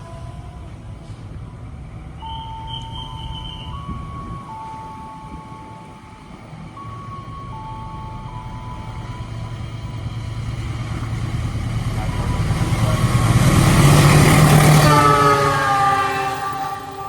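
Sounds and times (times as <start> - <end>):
locomotive horn: 0.0 - 6.4, 9.0 - 17.0
train engine rumble and wheels: 0.0 - 17.0.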